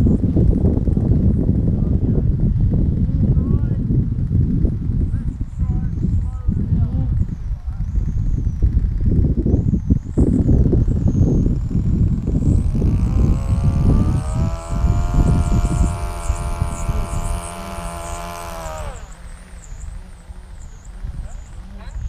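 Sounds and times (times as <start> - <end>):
electric model plane motor whine: 0.0 - 22.0
wind buffeting microphone: 0.0 - 22.0.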